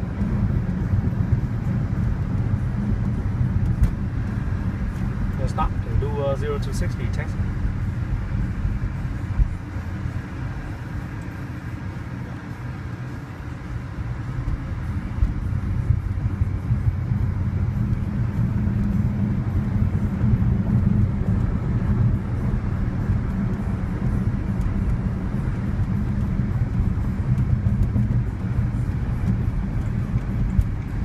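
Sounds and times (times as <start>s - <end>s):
electric car road rumble: 0.0s - 31.0s.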